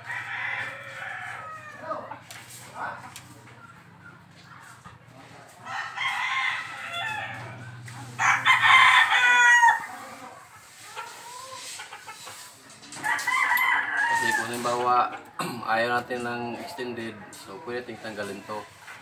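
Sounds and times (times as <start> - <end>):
roosters crowing: 0.0 - 18.9.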